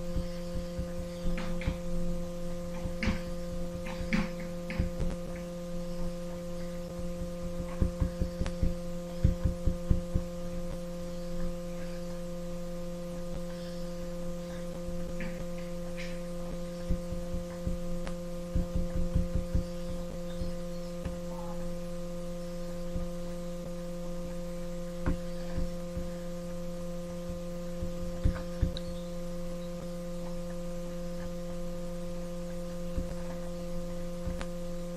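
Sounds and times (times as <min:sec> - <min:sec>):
electrical mains hum: 0:00.0 - 0:34.9.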